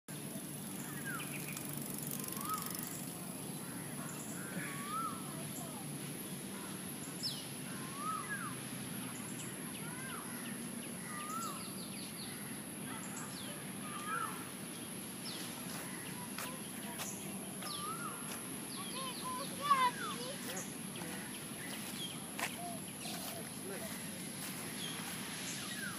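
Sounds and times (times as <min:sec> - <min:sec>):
steady outdoor hum: 0:00.1 - 0:25.9
birds calling: 0:00.2 - 0:25.9
higher bird chirps: 0:00.8 - 0:05.8, 0:07.0 - 0:14.8, 0:15.4 - 0:23.6.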